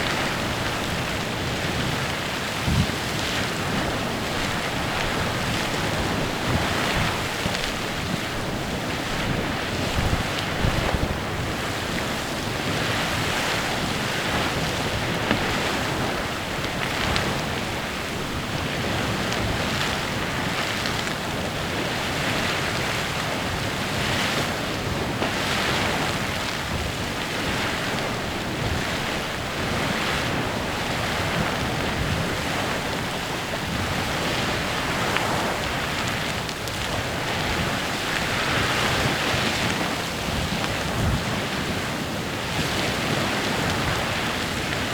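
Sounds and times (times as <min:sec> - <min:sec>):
geyser steam hissing: 0:00.0 - 0:44.9
water jets splashing: 0:00.0 - 0:44.9.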